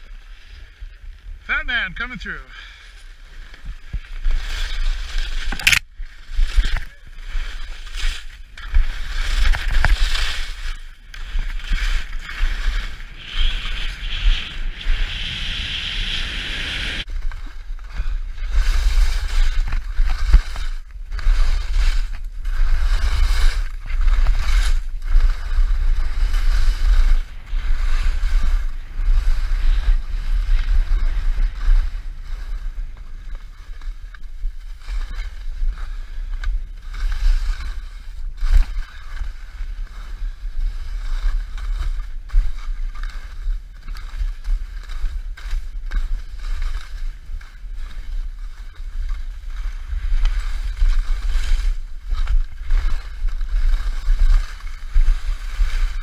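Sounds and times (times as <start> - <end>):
skis scraping over hard snow: 0.1 - 56.0
wind rumbling on microphone: 3.1 - 56.0.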